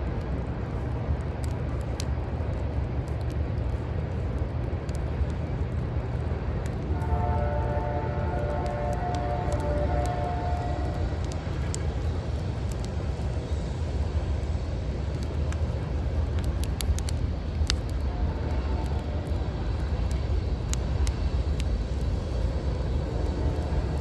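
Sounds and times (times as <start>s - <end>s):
fire popping: 0.0s - 24.0s
low rumble of city traffic: 0.0s - 24.0s
wood fire crackling: 0.0s - 24.0s.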